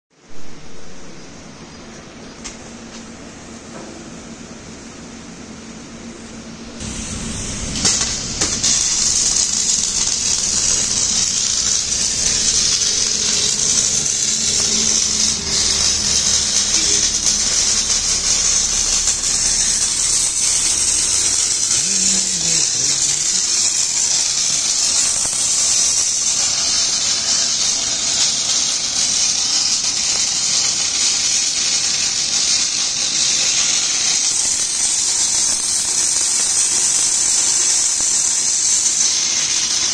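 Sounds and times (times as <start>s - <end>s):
welding arc crackling hiss: 4.7s - 39.9s.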